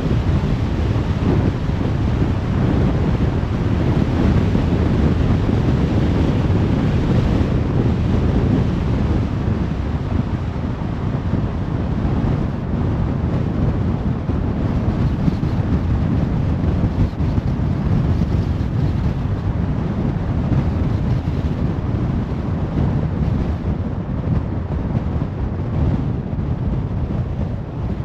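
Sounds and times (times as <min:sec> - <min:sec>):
tyre and wind noise: 0:00.0 - 0:28.0.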